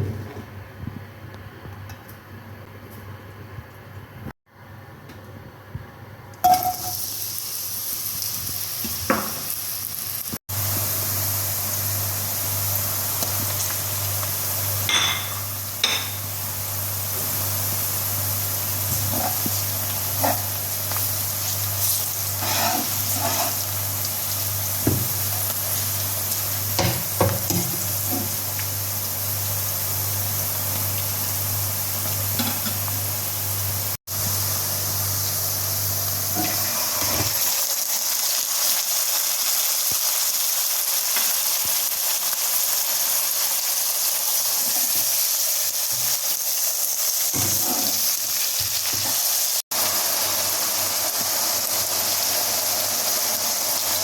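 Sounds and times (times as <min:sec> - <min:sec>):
food sizzling in oil: 0:06.4 - 0:54.0.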